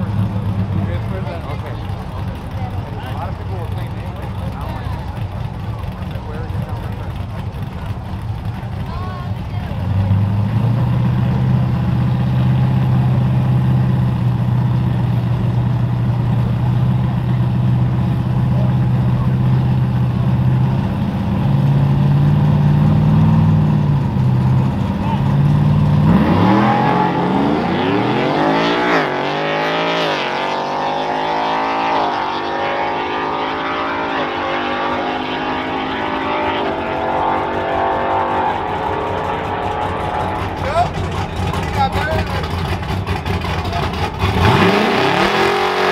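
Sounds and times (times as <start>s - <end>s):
engine revving: 0.0s - 45.9s.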